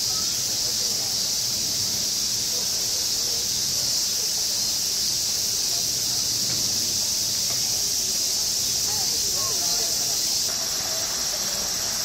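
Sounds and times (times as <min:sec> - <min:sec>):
cicada chorus droning: 0:00.0 - 0:12.0
murmur of distant voices: 0:00.0 - 0:12.0.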